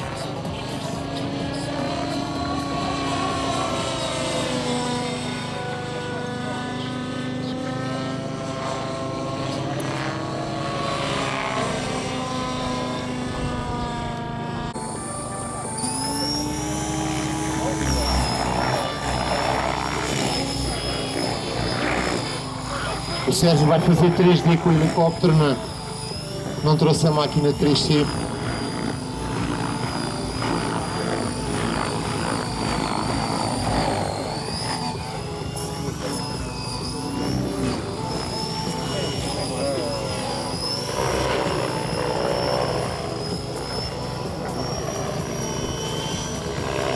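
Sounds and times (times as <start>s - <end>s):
model aircraft engine flying overhead: 0.0s - 46.9s.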